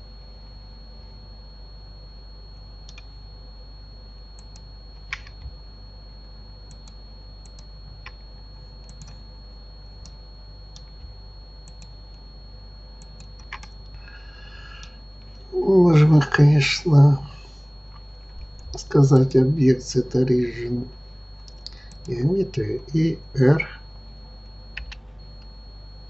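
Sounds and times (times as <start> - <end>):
faint high whine: 0.0 - 26.0
low electrical hum: 0.0 - 26.0.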